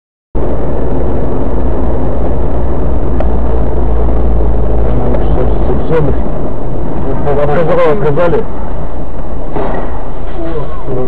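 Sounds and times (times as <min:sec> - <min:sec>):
road and engine rumble inside car: 0:00.4 - 0:11.0.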